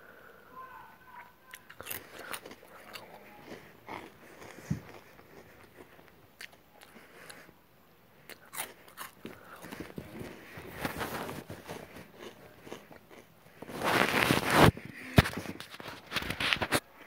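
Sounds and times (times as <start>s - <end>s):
person chewing crunchy snacks: 1.5s - 7.5s, 8.2s - 16.6s.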